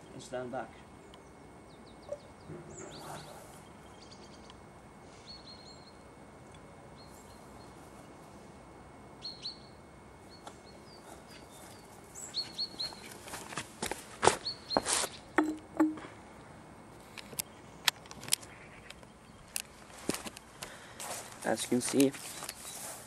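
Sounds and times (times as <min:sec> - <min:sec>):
small birds chirping: 0:00.0 - 0:08.3, 0:09.1 - 0:13.4, 0:14.3 - 0:15.5, 0:17.2 - 0:23.0.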